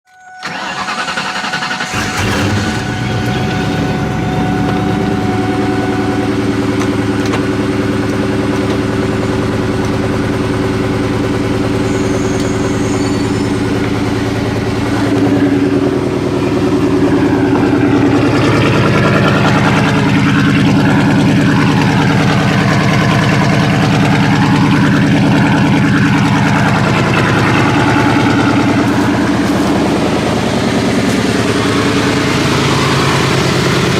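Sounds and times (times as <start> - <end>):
car engine starting and idling: 0.1 - 33.9.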